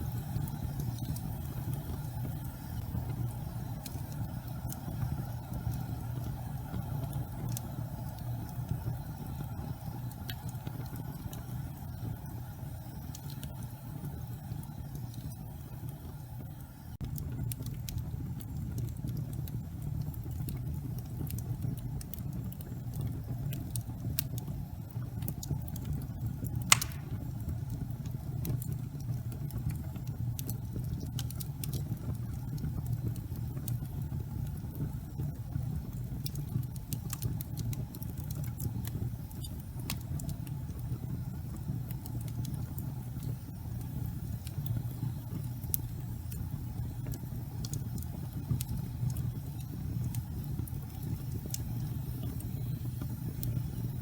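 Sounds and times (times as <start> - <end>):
fire crackles and pop: 0.0 - 54.0
gas fire flame rumble: 0.0 - 54.0.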